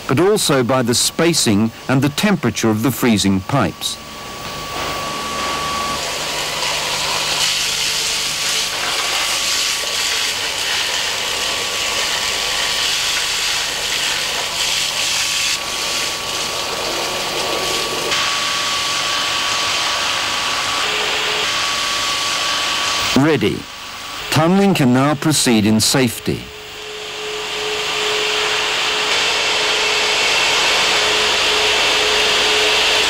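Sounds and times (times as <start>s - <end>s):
loud machine hissing rush: 0.0s - 33.0s.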